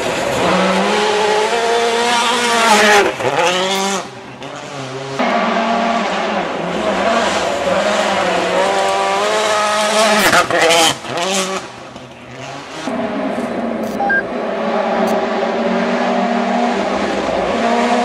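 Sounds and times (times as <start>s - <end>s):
rally car engines at full throttle: 0.0s - 18.0s.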